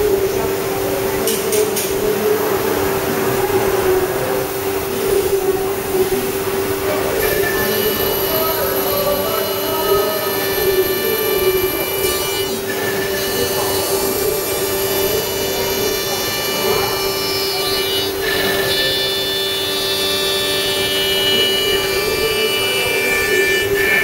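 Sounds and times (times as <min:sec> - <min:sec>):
cutter routing wood: 0:00.0 - 0:24.0
router spindle whining: 0:00.0 - 0:24.0.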